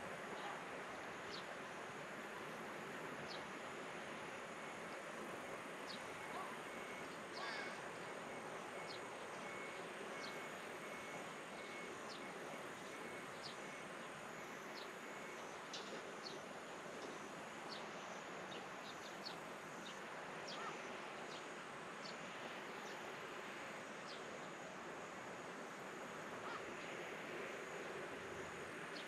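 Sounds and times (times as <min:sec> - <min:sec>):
faint steady high whine: 0:00.0 - 0:29.0.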